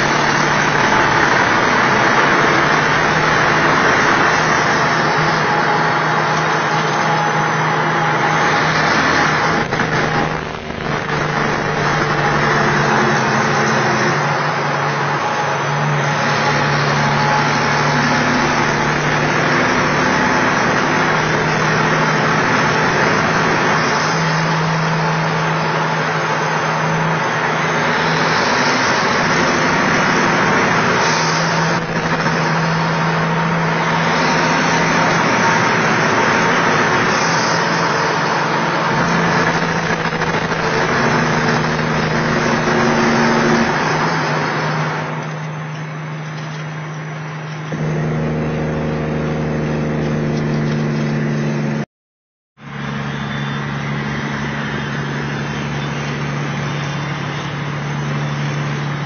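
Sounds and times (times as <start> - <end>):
truck diesel engine running: 0.0 - 51.8
road and tyre noise: 0.0 - 51.9, 52.6 - 59.0.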